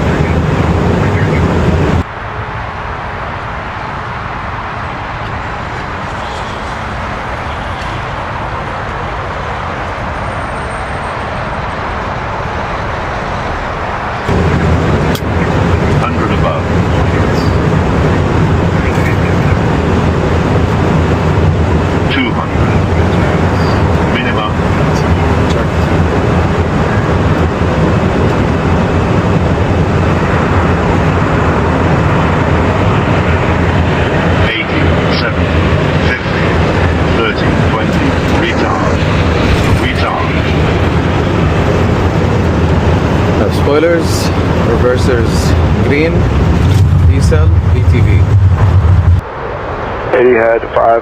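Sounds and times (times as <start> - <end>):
low rumble: 0.0 - 51.0
rushing airflow noise: 0.0 - 51.0.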